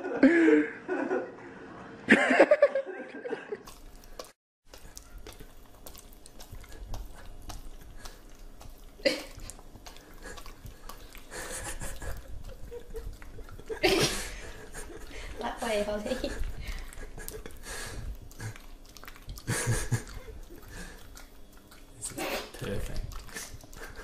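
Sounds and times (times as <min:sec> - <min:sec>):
dog licking and smacking lips: 0:03.6 - 0:24.0.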